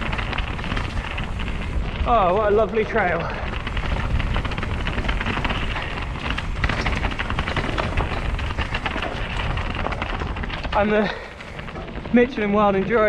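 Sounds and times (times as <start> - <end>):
bike rattling clicks and knocks: 0.0 - 13.0
bike tyres rolling on rocks: 0.0 - 13.0
wind buffeting microphone: 0.0 - 13.0.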